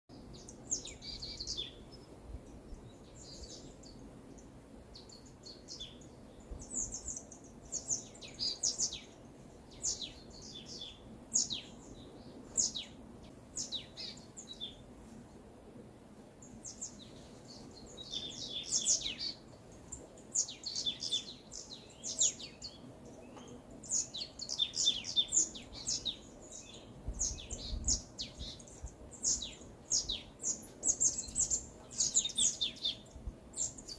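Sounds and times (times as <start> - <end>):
faint background noise: 0.1 - 33.9
songbirds chirping and trilling: 0.1 - 33.9.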